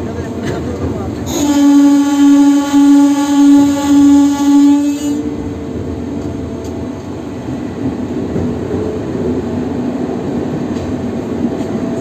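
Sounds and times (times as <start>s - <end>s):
locomotive rumbling on rails: 0.0s - 12.0s.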